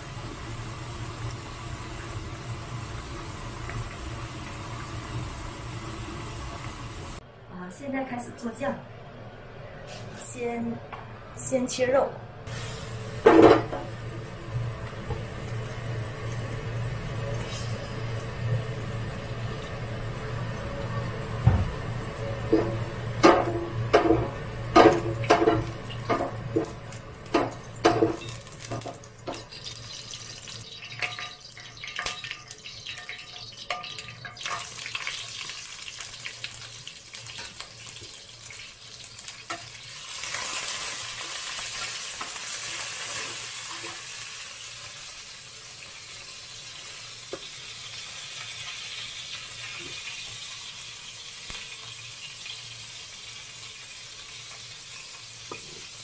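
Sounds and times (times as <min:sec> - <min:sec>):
meat sizzling in hot oil: 0:00.0 - 0:07.2, 0:12.5 - 0:56.0.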